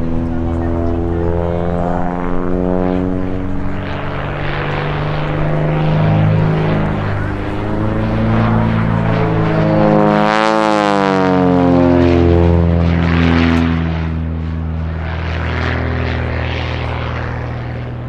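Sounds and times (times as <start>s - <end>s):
propeller plane engine at high power: 0.0s - 18.0s.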